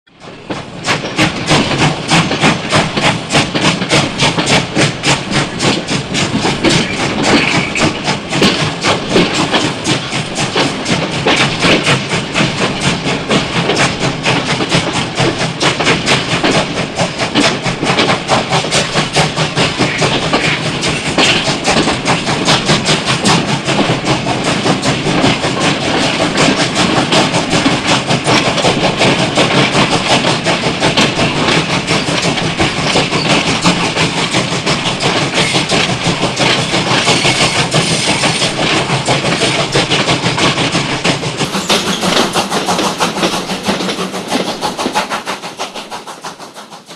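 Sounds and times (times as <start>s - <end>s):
train clattering: 0.1s - 46.9s.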